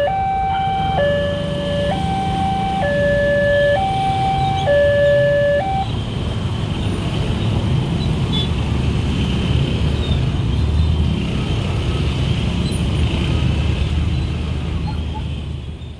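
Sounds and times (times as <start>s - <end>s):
road traffic rumble: 0.0s - 15.9s.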